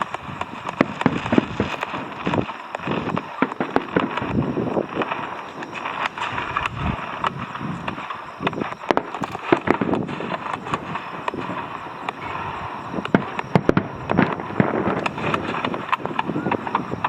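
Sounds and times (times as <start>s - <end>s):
fireworks crackling and popping: 0.0s - 17.0s
steady background rush: 0.0s - 17.0s.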